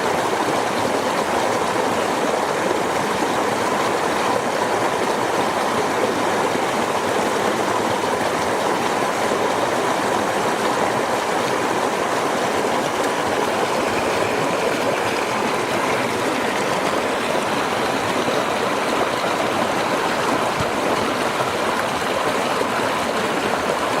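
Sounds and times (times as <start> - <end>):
river water flowing over stones: 0.0 - 24.0.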